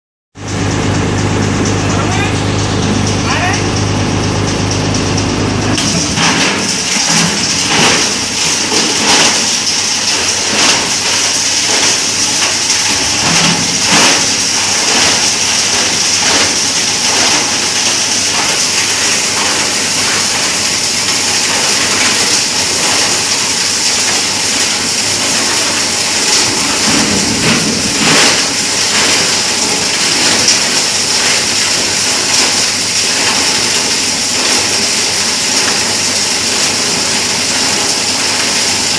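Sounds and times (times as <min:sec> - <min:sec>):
low motor hum: 0:00.4 - 0:38.9
plastic grinder grinding: 0:05.8 - 0:38.9.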